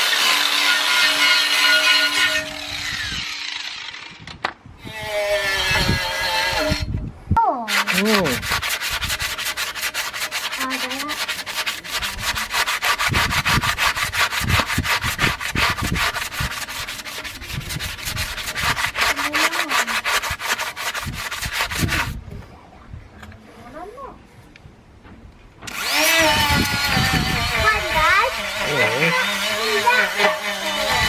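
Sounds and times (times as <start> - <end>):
hand sanding metal rim: 0.0 - 4.0, 4.9 - 6.9, 7.6 - 22.2, 25.7 - 31.0.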